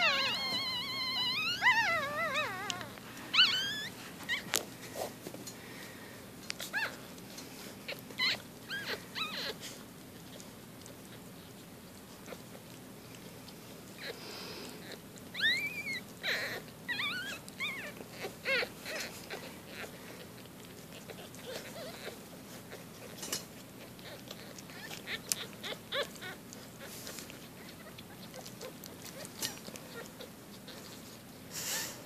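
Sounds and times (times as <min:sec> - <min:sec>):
puppies squeaking and whimpering: 0:00.0 - 0:05.1, 0:06.5 - 0:32.0.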